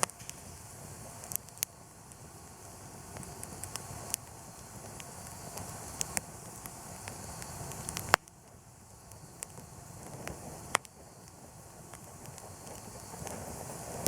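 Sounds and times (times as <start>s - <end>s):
campfire crackling: 0.0s - 14.0s
fire popping: 0.0s - 14.0s.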